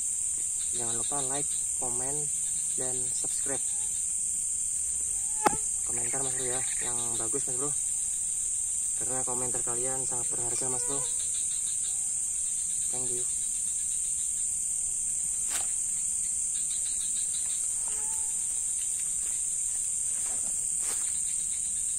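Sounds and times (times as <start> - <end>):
crickets shrilling: 0.0 - 21.9.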